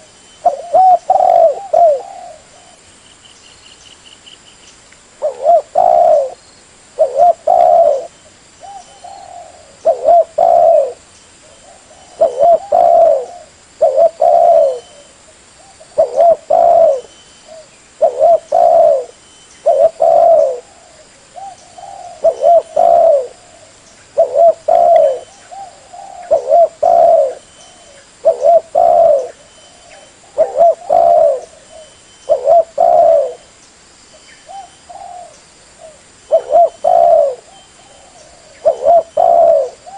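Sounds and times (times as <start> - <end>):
dove cooing: 0.0 - 2.8, 5.2 - 6.4, 7.0 - 33.5, 34.4 - 39.9.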